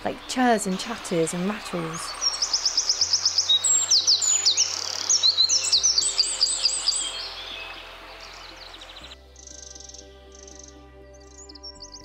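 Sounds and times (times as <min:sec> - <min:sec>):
bird rapid trilling song: 0:00.0 - 0:12.0.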